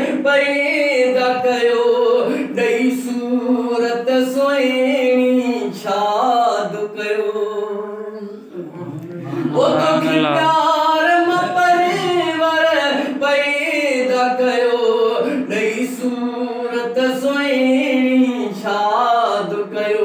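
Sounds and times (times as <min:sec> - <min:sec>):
man singing unaccompanied: 0:00.0 - 0:20.0.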